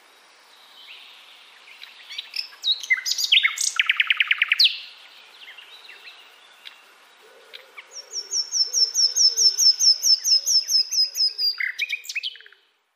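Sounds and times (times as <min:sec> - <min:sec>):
nightingale singing: 0:00.2 - 0:12.8.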